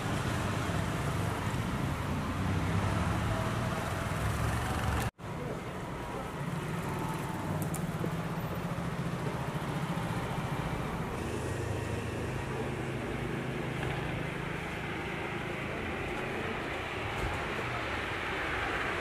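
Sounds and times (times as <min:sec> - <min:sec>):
road noise: 0:00.0 - 0:19.0
vehicle engines passing: 0:00.0 - 0:19.0.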